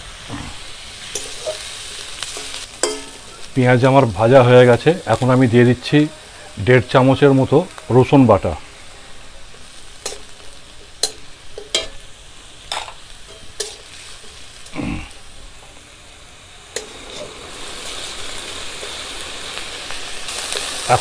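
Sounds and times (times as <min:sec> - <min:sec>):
garlic sizzling in oil: 0:00.0 - 0:21.0.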